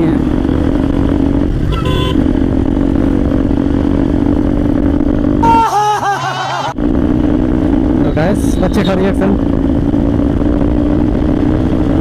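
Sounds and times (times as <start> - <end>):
motorcycle engine running: 0.0 - 5.6, 6.7 - 12.0.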